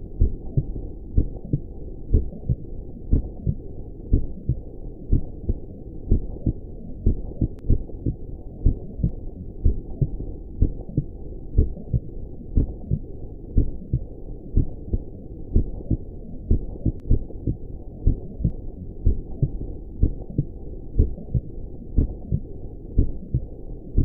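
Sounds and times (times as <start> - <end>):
muffled heartbeat thumps: 0.2 - 13.0, 13.6 - 24.0.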